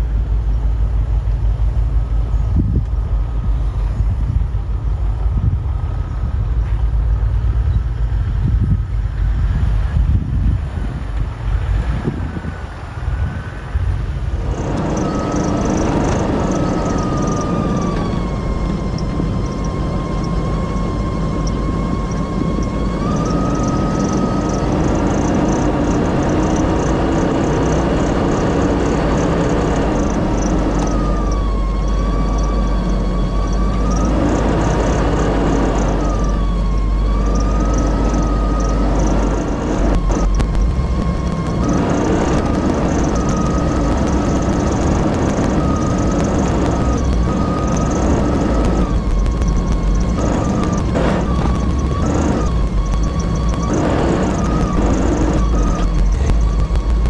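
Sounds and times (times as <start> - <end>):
vehicle engine rumble and whine: 0.0 - 57.0
wind noise on microphone: 0.0 - 57.0.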